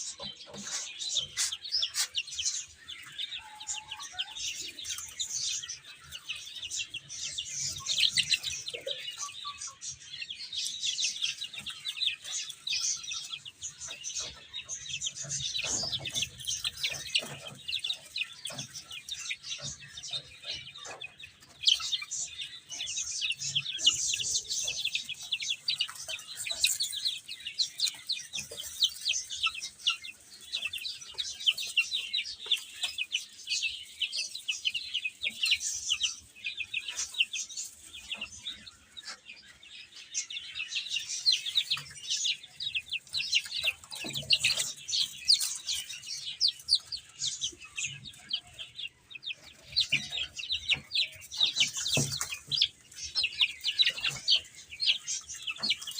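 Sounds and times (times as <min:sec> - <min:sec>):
baby chicks cheeping: 0:00.0 - 0:55.9.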